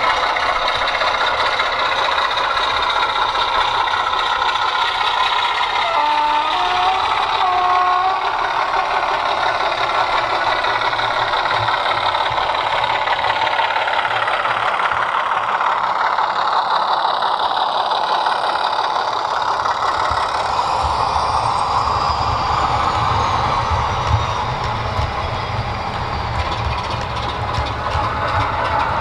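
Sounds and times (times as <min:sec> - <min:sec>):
model locomotive engine sound: 0:00.0 - 0:29.0.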